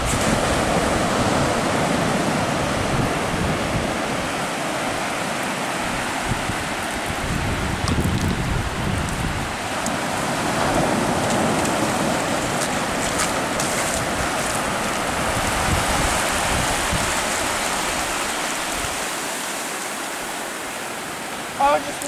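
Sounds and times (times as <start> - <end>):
waves breaking on sandy beach: 0.0 - 22.0.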